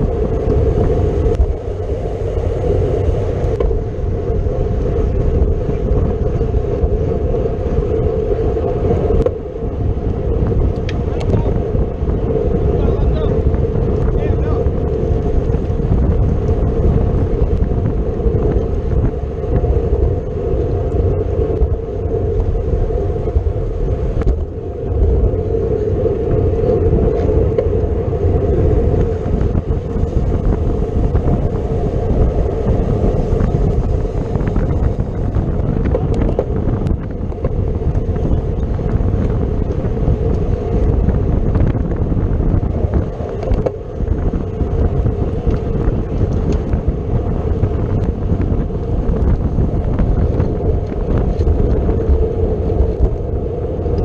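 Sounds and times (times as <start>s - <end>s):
bicycle road noise: 0.0s - 54.0s
constant low hum: 0.0s - 54.0s
wind rush over microphone: 0.0s - 54.0s.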